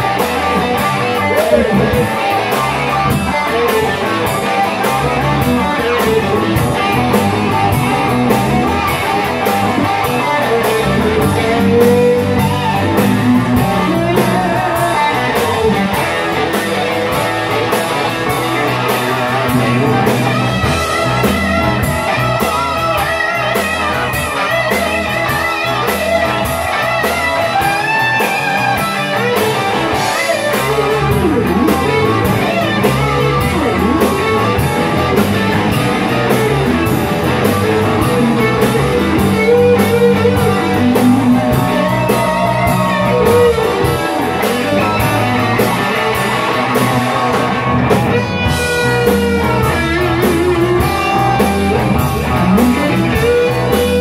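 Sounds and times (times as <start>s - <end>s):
live blues rock band: 0.0s - 54.0s.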